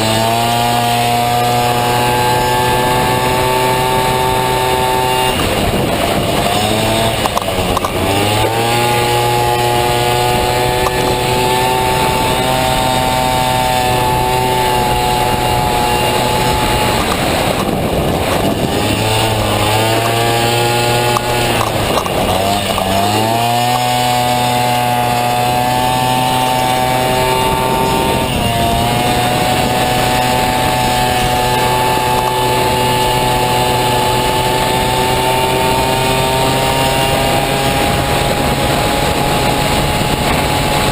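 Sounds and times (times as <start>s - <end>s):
scooter engine running hard: 0.0s - 40.9s.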